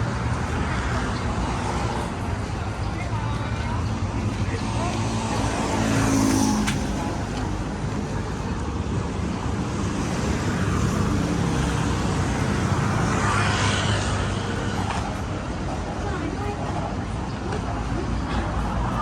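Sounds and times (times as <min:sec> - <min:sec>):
road traffic engines: 0:00.0 - 0:19.0.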